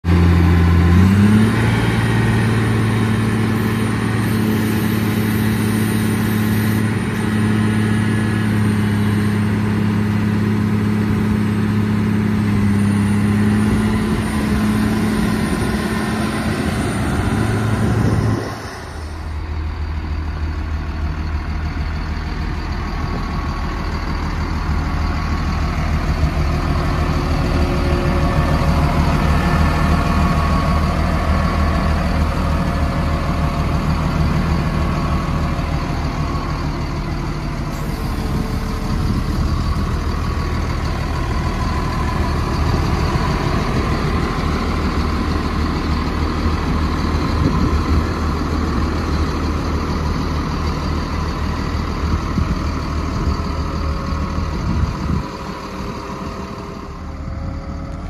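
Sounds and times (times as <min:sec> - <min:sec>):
diesel engine revving and idling: 0:00.0 - 0:58.0
high engine whine: 0:00.0 - 0:58.0.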